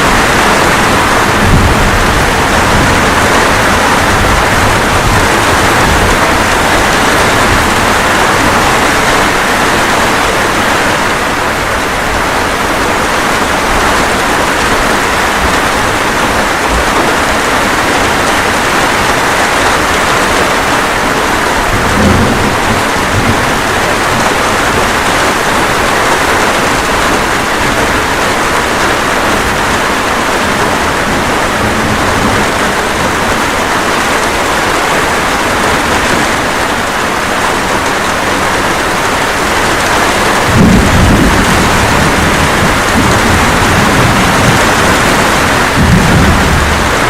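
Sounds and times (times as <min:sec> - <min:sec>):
steady rain: 0:00.0 - 0:47.0
thunder rumbling: 0:00.0 - 0:47.0.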